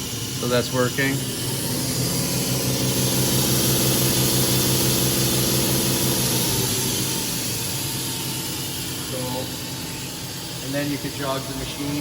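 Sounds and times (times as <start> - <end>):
machine spindle humming: 0.0 - 12.0.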